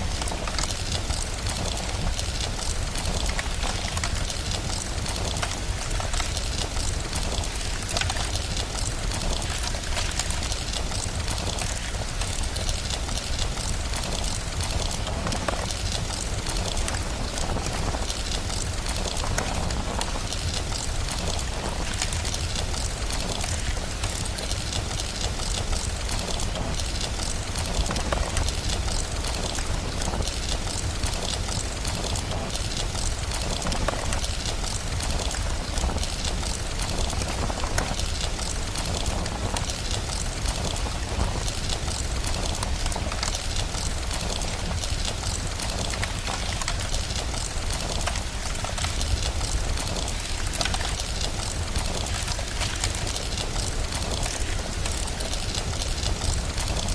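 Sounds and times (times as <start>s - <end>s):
steady rain: 0.0s - 56.9s
wood fire crackling: 0.0s - 56.9s.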